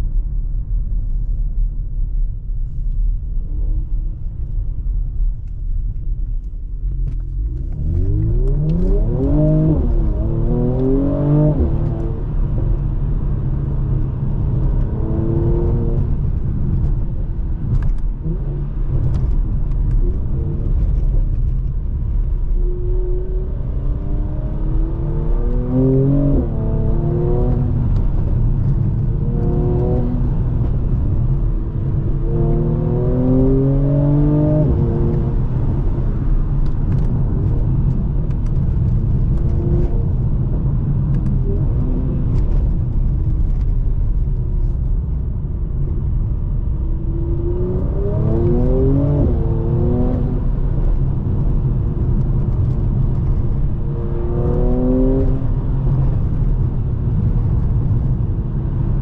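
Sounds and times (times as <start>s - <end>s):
low road rumble: 0.0s - 59.0s
car engine accelerating hard: 7.1s - 44.8s, 45.5s - 59.0s.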